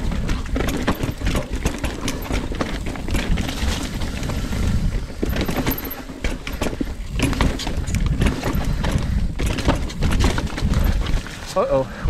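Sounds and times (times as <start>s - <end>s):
bike clattering over bumps: 0.0s - 11.8s
bike tyres on dirt: 0.0s - 12.0s
wind rumble on microphone: 0.0s - 12.0s.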